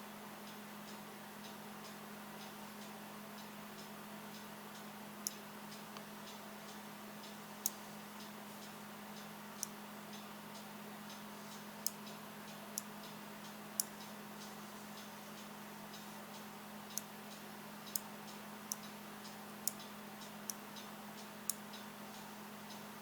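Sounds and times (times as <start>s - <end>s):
steady low hum: 0.0s - 23.0s
faint regular ticking: 0.4s - 23.0s.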